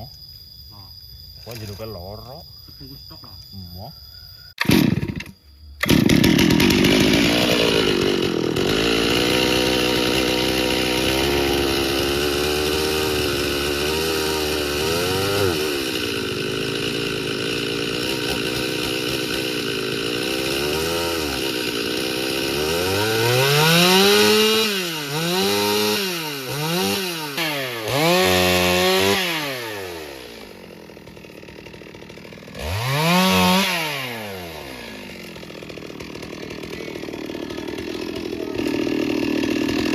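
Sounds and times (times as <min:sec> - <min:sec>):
chainsaw engine revving: 0:04.6 - 0:39.9.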